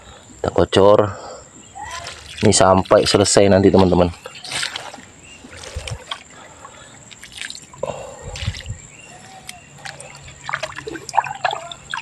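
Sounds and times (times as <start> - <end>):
soil squelch: 1.6 - 12.0
liquid splashing onto wet soil: 1.8 - 12.0.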